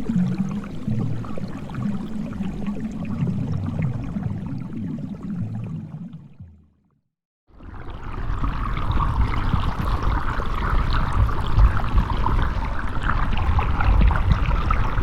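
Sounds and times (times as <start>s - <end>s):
rushing water with low rumble: 0.0s - 6.0s, 7.5s - 15.0s.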